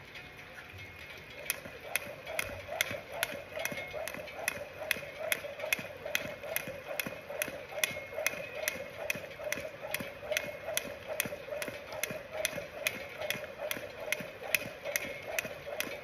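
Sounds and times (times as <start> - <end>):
jump rope slapping the ground: 1.4 - 16.0.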